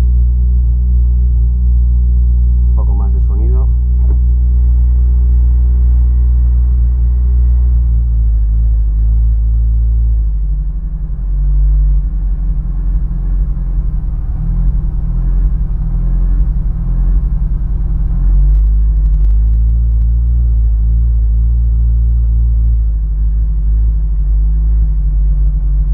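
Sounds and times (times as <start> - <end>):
car engine idling unevenly: 2.4 - 25.9.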